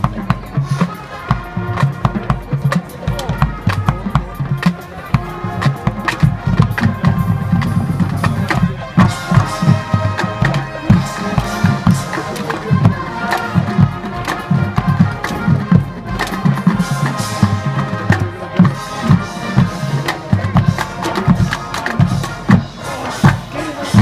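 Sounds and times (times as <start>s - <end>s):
drumline drum hits: 0.0s - 24.0s
wind and brass instruments: 0.0s - 24.0s.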